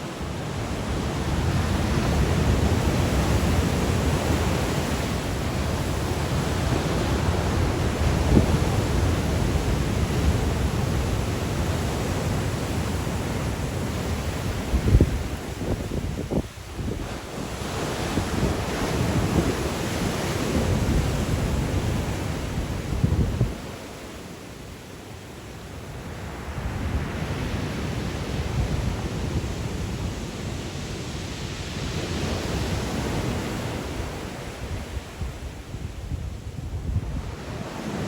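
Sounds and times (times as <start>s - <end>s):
waves breaking on shore: 0.0s - 38.0s
wind buffeting microphone: 0.2s - 23.8s, 26.5s - 38.0s.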